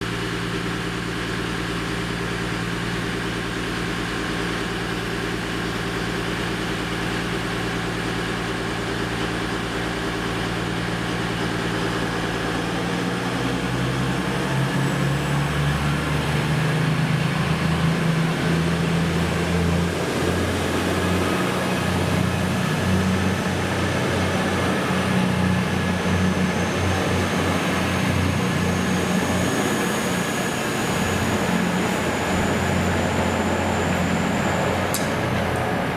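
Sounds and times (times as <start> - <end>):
train diesel engines: 0.0 - 35.9.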